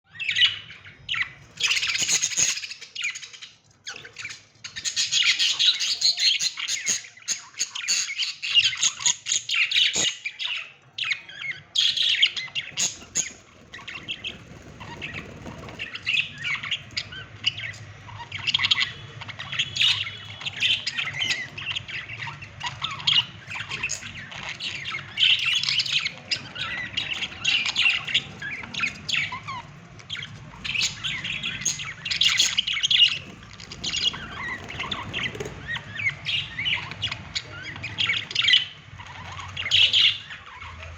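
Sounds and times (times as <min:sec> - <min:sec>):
budgerigars chirping and squawking: 0:00.1 - 0:40.9.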